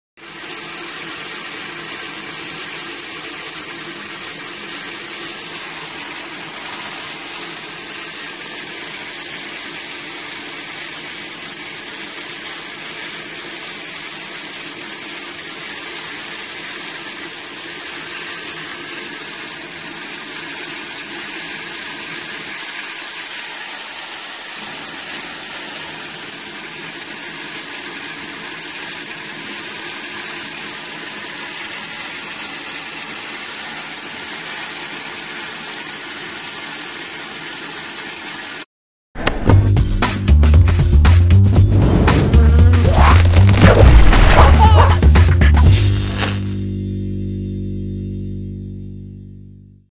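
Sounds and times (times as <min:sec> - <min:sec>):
shower spray hissing into bathtub: 0:00.2 - 0:38.7, 0:42.1 - 0:45.1, 0:45.7 - 0:46.6.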